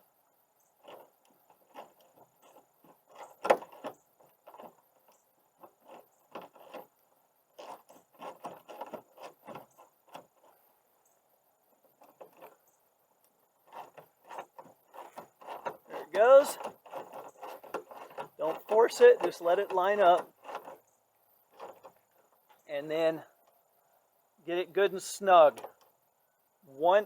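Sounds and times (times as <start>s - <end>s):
light metallic clicks and rattles: 0.6s - 22.7s, 25.3s - 26.2s.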